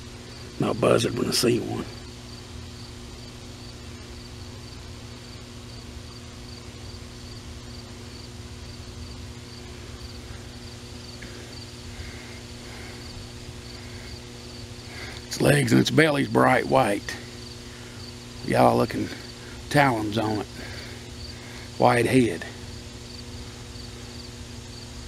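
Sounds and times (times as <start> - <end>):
insects chirping: 0.0 - 25.0
low steady hum: 0.0 - 25.0.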